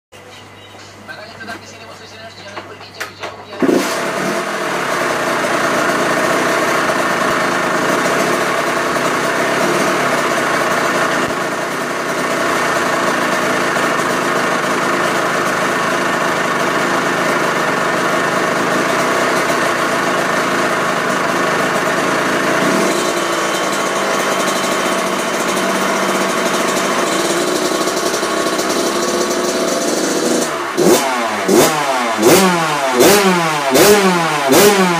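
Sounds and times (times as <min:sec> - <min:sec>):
two-stroke engine idling: 0:03.6 - 0:34.9.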